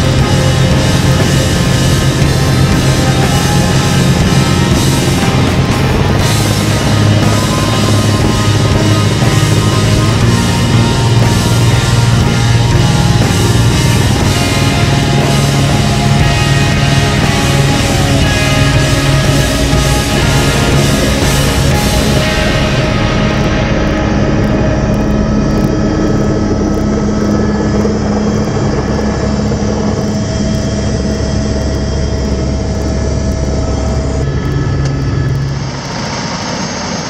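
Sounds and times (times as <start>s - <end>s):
background music: 0.0s - 31.7s
helicopter engine and rotor: 0.0s - 37.0s.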